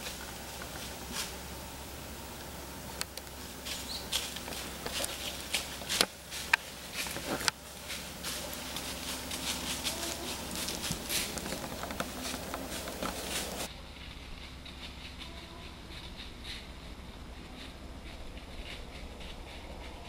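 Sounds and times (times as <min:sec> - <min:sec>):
dry leaves and twigs crackling: 0:00.0 - 0:20.0.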